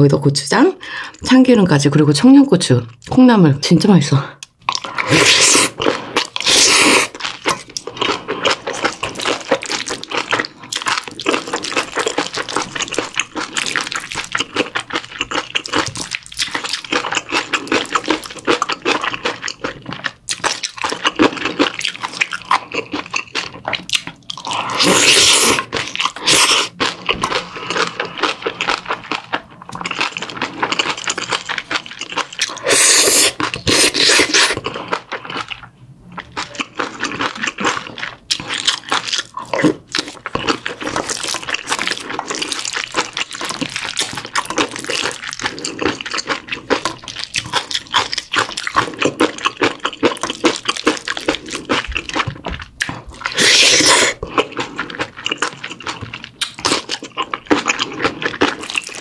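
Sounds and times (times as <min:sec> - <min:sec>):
close-miked wet crunchy chewing: 0:04.4 - 0:59.0.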